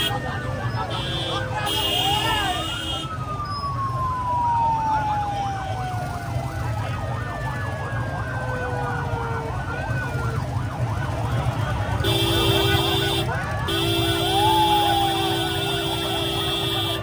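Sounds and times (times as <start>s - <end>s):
low rumble of engines: 0.0s - 17.0s
warbling siren: 0.0s - 17.0s.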